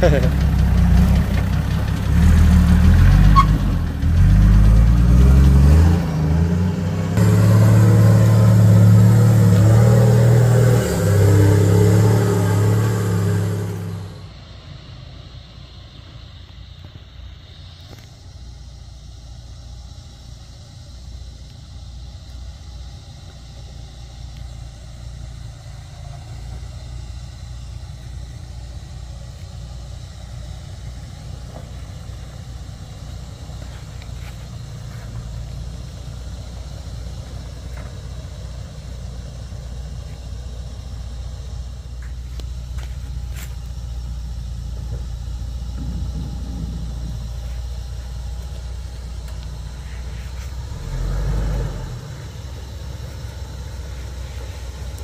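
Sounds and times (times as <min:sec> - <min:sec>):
vehicle engine low rumble: 0:00.0 - 0:55.0.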